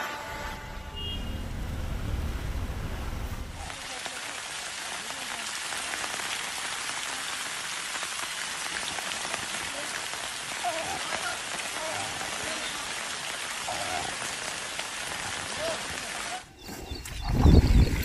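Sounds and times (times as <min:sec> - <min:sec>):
hissing water: 0:00.8 - 0:18.0.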